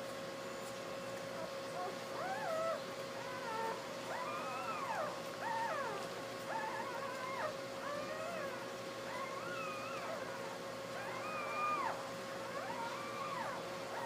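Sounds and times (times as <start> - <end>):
faint steady hum: 0.0 - 14.0
puppies squeaking and whining: 1.4 - 14.0.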